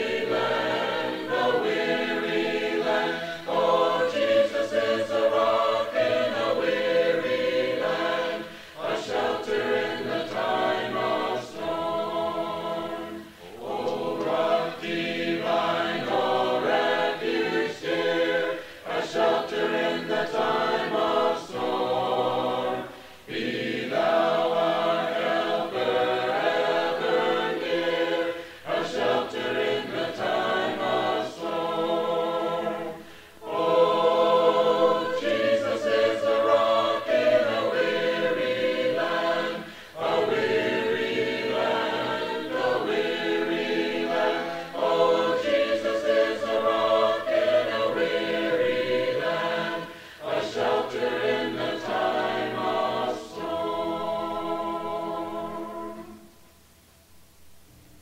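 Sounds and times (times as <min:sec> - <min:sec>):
choir singing a hymn: 0:00.0 - 0:56.5.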